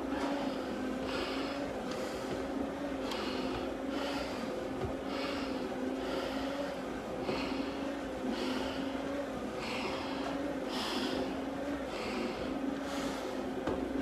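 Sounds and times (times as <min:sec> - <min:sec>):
hard breathing through a mask: 0:00.1 - 0:13.6.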